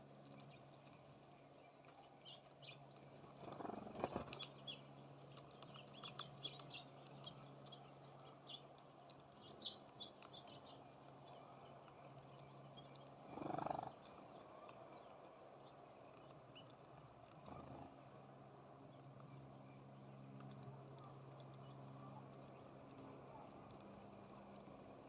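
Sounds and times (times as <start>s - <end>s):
faint steady hum: 0.0s - 25.0s
small songbirds chipping: 0.0s - 25.0s.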